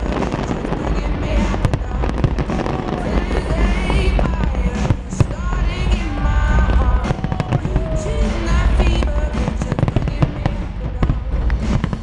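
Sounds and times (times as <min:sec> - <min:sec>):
deep rumble: 0:00.0 - 0:12.0
firework bursts and bangs: 0:00.0 - 0:12.0
loud music: 0:00.0 - 0:12.0.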